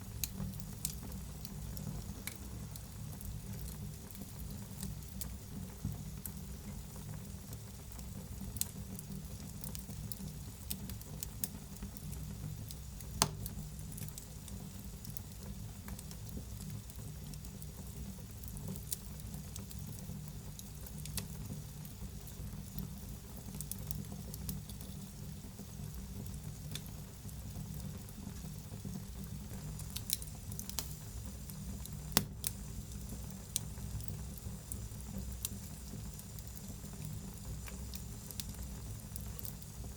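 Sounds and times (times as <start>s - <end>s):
fire crackling and popping: 0.0s - 39.9s
fire rumbling in fireplace: 0.0s - 39.9s.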